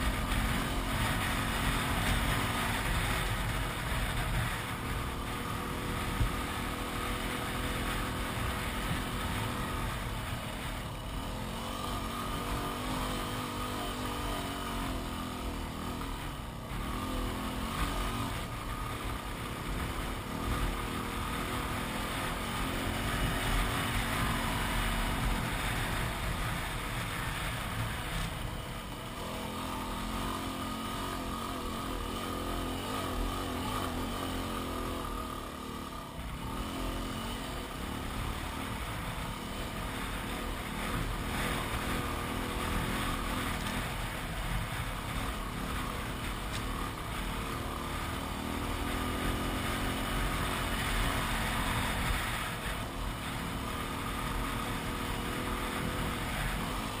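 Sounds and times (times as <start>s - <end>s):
constant rushing noise: 0.0s - 57.0s
motorcycle engine under load: 0.0s - 57.0s.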